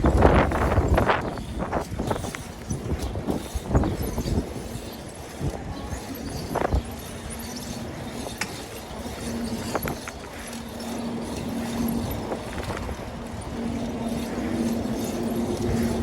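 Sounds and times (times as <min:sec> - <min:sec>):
bicycle clicks and knocks: 0:00.0 - 0:16.0
wind buffeting microphone: 0:00.0 - 0:16.0.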